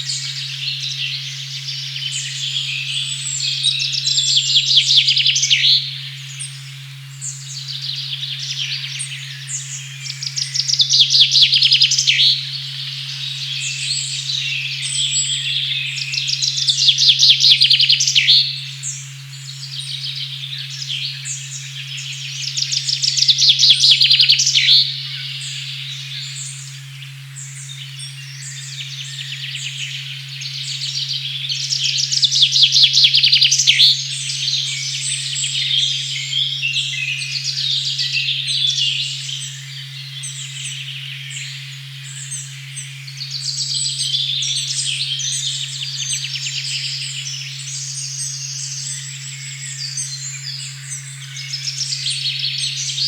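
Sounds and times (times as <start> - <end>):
low sine tone: 0.0 - 53.0
songbirds singing: 0.0 - 53.0.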